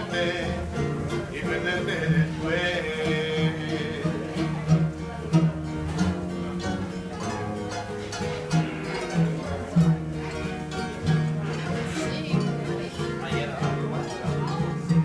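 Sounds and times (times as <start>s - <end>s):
live band on plucked strings: 0.0s - 15.0s.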